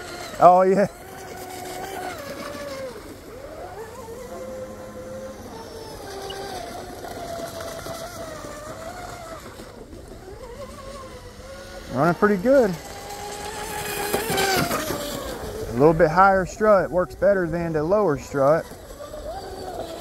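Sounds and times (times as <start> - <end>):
model boat motor whining: 0.0 - 20.0.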